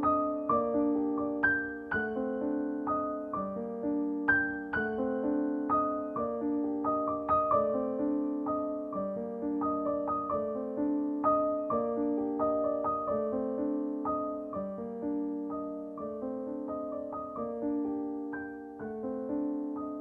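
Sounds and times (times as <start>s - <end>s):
gentle piano melody: 0.0s - 20.0s.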